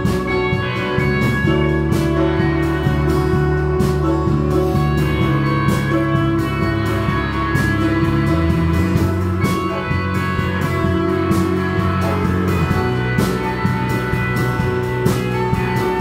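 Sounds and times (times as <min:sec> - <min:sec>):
drum kit steady beat: 0:00.0 - 0:16.0
electric guitar sustained notes: 0:00.0 - 0:16.0.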